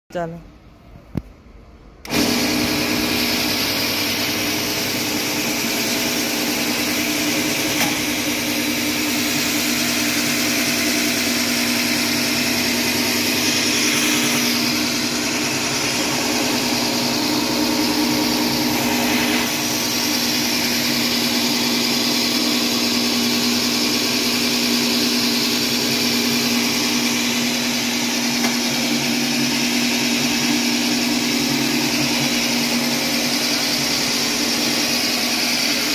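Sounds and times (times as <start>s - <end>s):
cutting cylinder whirring: 2.0s - 35.9s
electric lawn mower motor hum: 2.0s - 35.9s.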